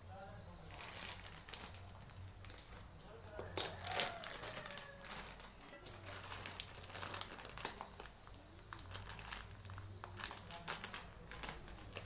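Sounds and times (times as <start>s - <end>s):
plastic packet crinkling: 0.7s - 12.0s.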